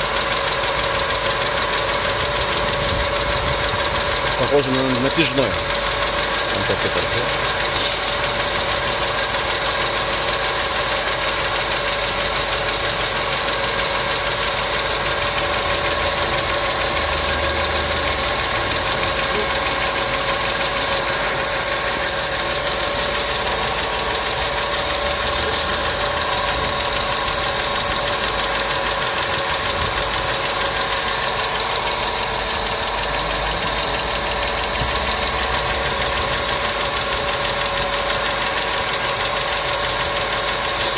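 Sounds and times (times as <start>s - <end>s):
car engine idling: 0.0s - 40.9s
rapid engine ticking: 0.0s - 40.9s.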